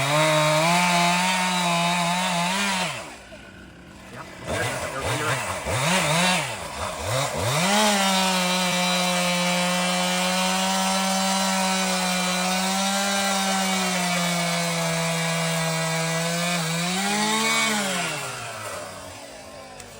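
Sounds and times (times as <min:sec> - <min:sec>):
stump grinder bogging and running: 0:00.0 - 0:19.9.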